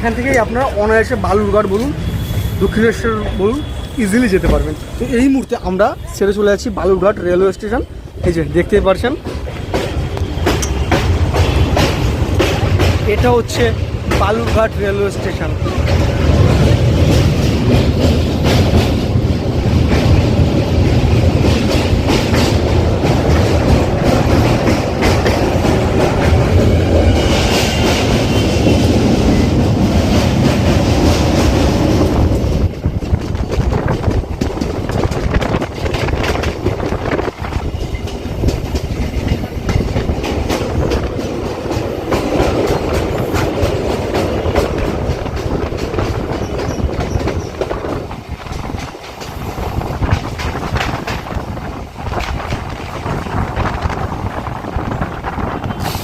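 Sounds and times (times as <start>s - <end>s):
train rumbling on track: 0.0s - 56.0s
wheels clacking over rail joints: 8.9s - 56.0s.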